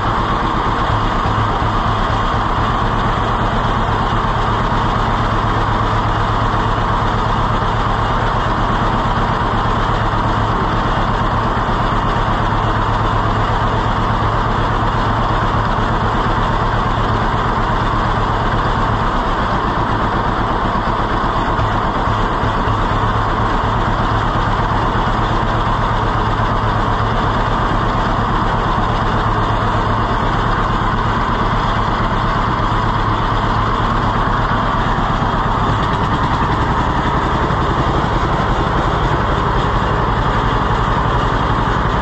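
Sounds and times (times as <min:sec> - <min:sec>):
two-cylinder tractor engine idling: 0:00.0 - 0:42.0.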